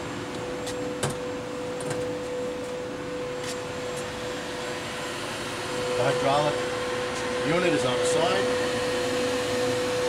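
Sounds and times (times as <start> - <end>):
hydraulic machine humming: 0.0 - 10.0.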